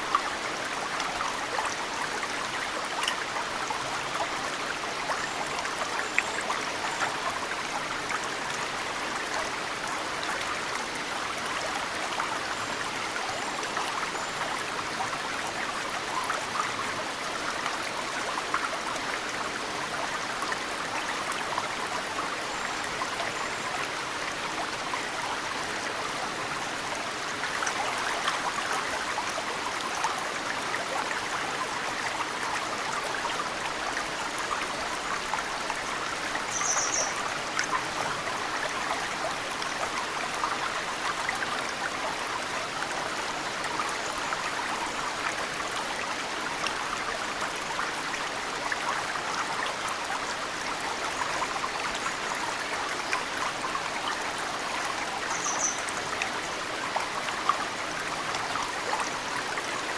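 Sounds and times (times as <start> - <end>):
mountain stream flowing: 0.0 - 59.9
water dripping into stream: 0.0 - 59.9.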